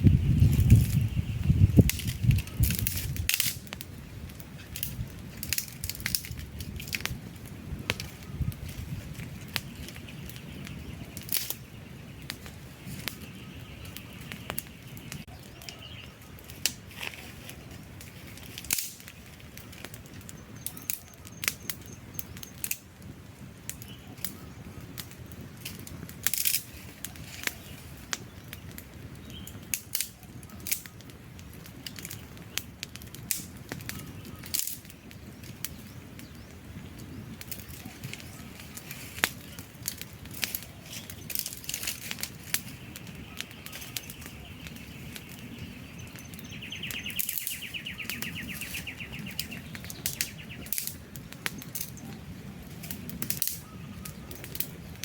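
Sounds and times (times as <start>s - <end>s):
crackles and pops of burning logs: 0.0s - 55.0s
rush of campfire flames: 0.0s - 55.0s.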